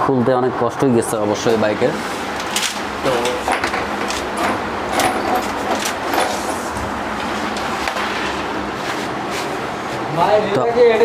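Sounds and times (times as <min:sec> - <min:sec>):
motor vehicle noise: 0:00.7 - 0:11.0.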